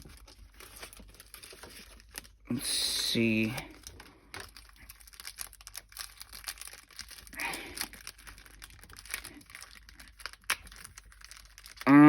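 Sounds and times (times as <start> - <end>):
packaging and paper crinkling: 0.0 - 12.0.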